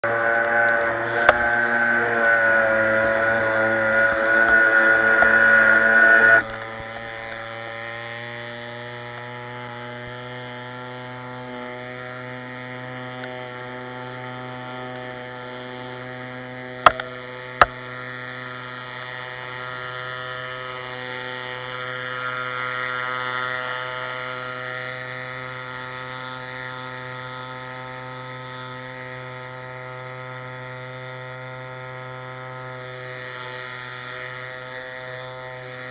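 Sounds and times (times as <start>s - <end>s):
motor buzzing hum: 0.0s - 35.9s.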